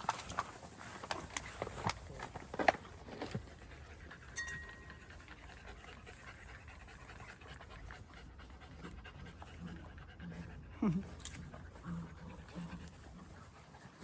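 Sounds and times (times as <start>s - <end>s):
dogs panting: 0.0s - 14.0s.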